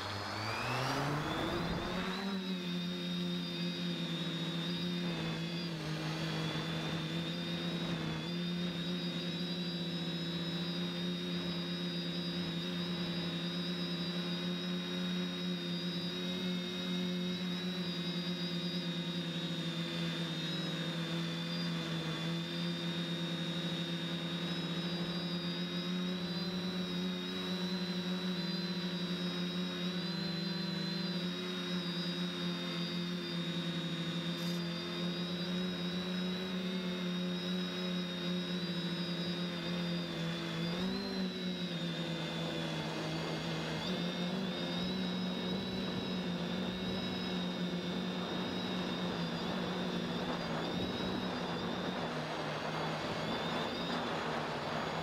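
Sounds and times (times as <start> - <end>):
quadcopter propellers whirring: 0.0 - 55.0.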